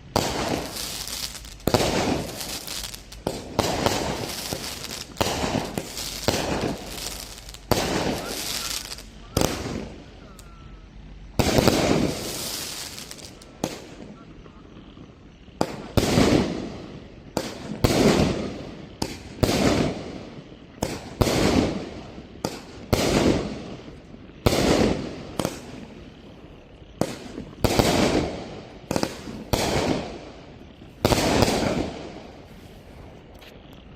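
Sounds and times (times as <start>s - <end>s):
firework shots popping: 0.0s - 10.6s, 11.2s - 14.6s, 15.6s - 33.9s.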